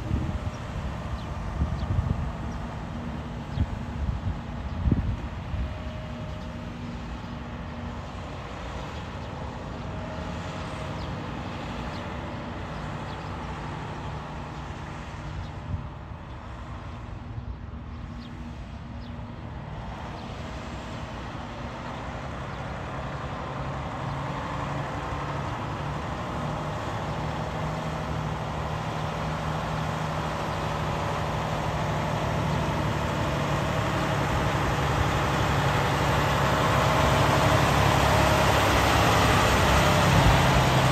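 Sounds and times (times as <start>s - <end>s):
truck diesel engine approaching: 0.0s - 40.9s.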